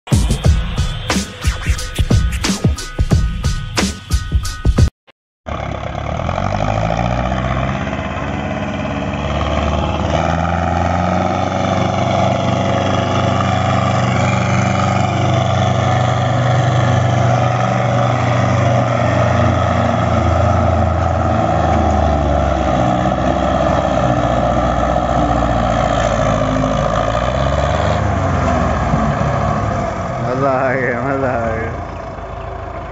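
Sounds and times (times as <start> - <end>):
diesel tractor engine under load: 5.5 - 32.9.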